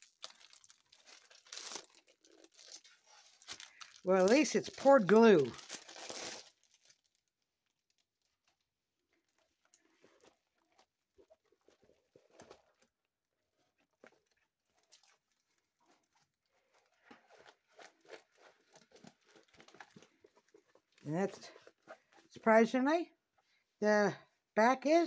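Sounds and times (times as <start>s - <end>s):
plastic film rustling and crinkling: 0.0s - 22.4s.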